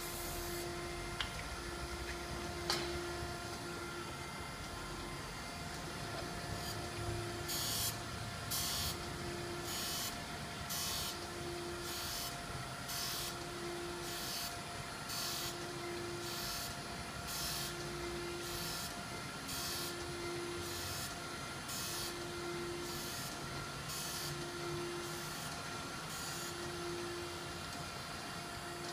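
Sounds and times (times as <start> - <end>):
grinder machine whine: 0.0 - 28.9.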